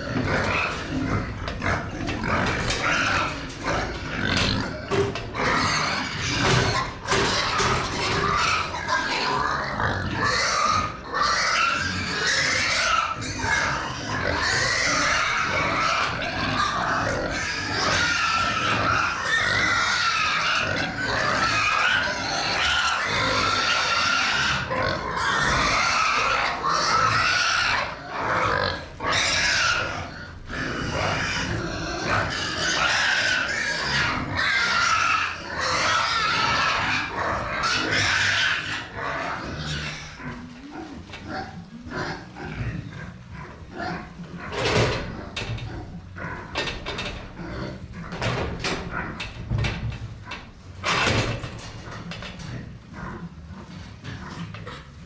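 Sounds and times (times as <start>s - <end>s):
pigs squealing loudly: 0.0s - 55.0s.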